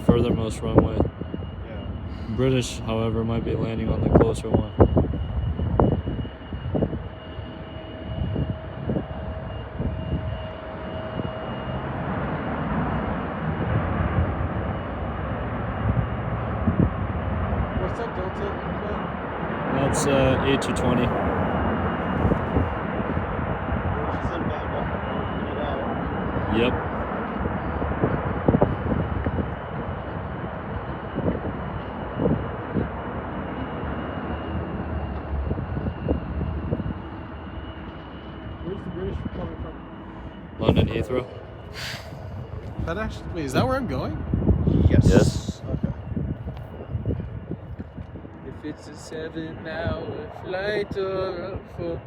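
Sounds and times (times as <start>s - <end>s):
jet engine noise: 0.0s - 52.0s.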